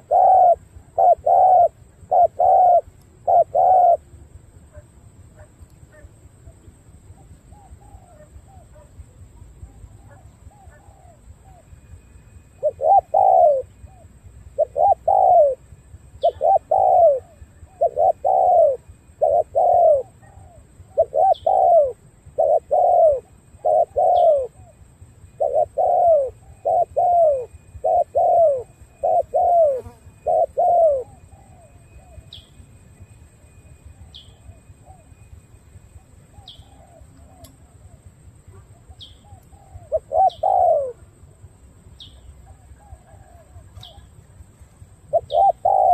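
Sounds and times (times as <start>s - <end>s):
dove cooing: 0.0s - 6.6s, 7.2s - 11.8s, 12.6s - 32.5s, 35.9s - 41.4s, 42.3s - 44.2s, 45.0s - 45.9s
faint high bird chirps: 4.7s - 41.0s, 41.9s - 44.2s, 45.1s - 45.9s.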